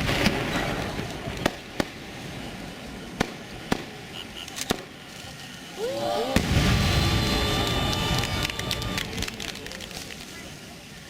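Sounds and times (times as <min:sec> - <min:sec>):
fireworks bangs: 0:00.0 - 0:05.2, 0:06.1 - 0:10.7
crowd noise: 0:00.0 - 0:11.0.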